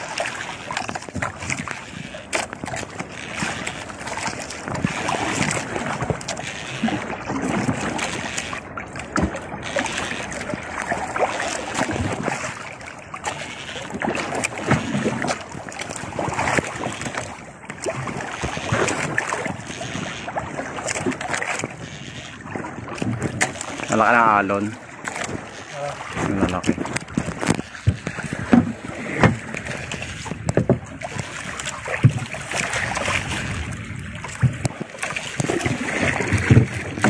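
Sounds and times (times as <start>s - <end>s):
water splashing against boat hull: 0.0s - 37.0s.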